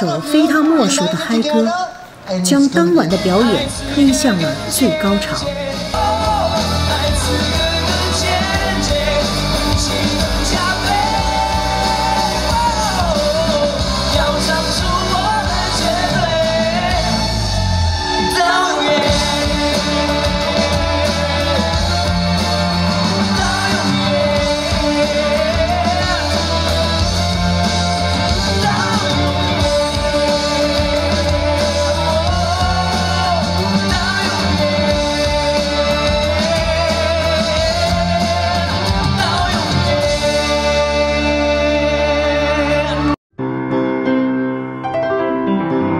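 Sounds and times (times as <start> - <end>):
person singing: 2.9 - 43.2
amplified pop-rock band: 3.2 - 43.2.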